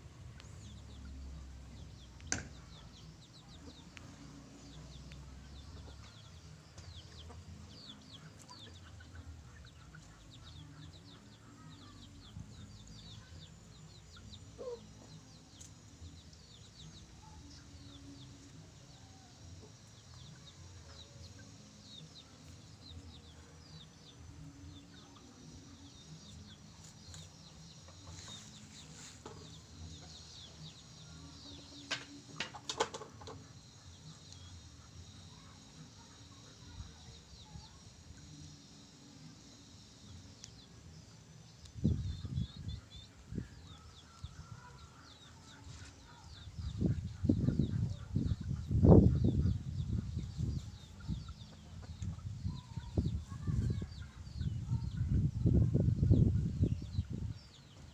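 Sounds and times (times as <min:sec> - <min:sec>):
faint bird chirping: 0:00.1 - 0:32.6, 0:33.2 - 0:57.9.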